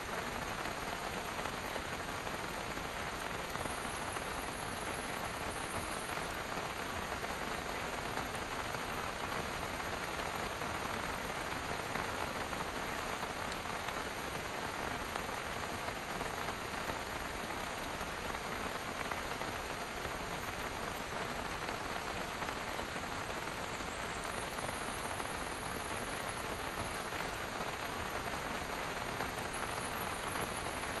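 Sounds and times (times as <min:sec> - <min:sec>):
rain drumming on car roof: 0:00.0 - 0:31.0.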